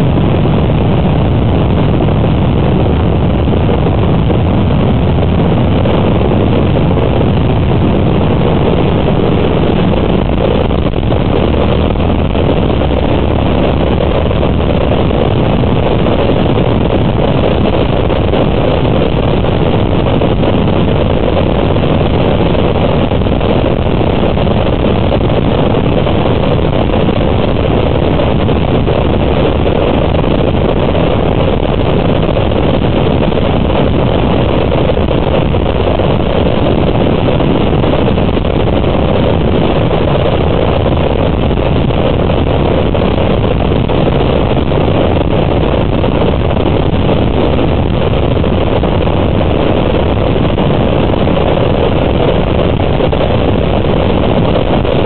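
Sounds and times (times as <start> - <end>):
motorcycle engines rumbling: 0.0 - 48.0
wind buffeting microphone: 0.0 - 55.0.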